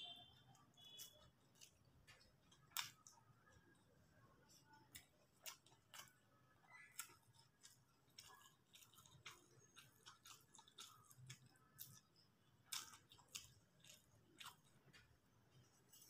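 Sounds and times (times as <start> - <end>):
person chewing noodles: 0.0 - 16.0.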